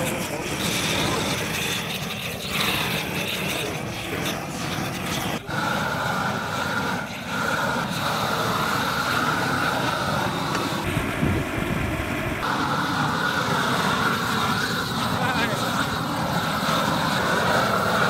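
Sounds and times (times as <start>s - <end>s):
propane torches roaring: 0.0s - 18.0s.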